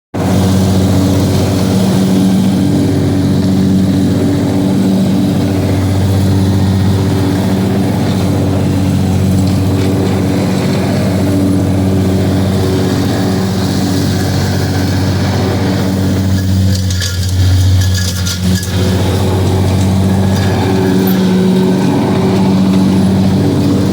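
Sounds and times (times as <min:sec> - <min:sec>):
motor humming: 0:00.2 - 0:23.9.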